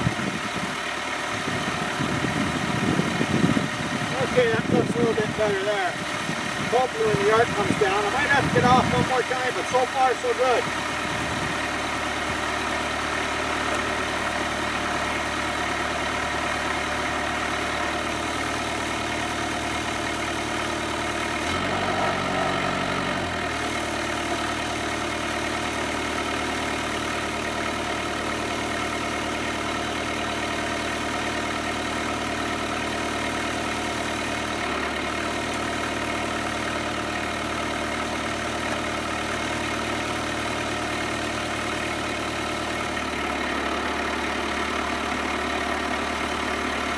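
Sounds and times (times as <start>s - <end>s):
tractor diesel engine idling: 0.0s - 46.9s.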